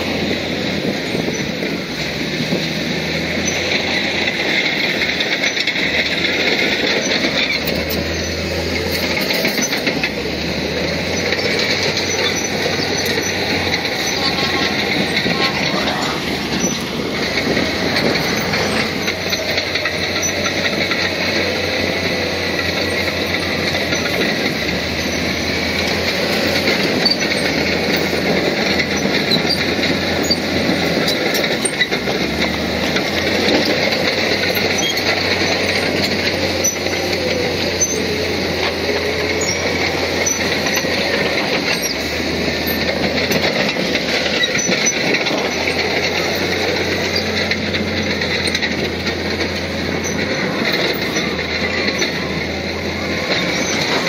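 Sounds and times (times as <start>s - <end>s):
bulldozer diesel engine and tracks: 0.0s - 54.0s.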